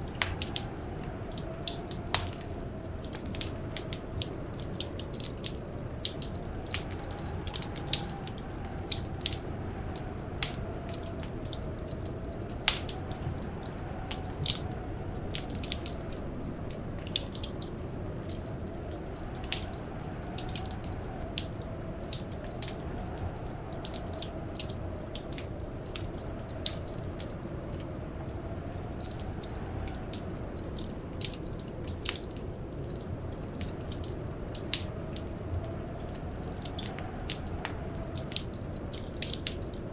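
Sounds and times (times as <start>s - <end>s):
blizzard wind howling: 0.0s - 39.9s
wood fire crackling and popping: 0.0s - 39.9s.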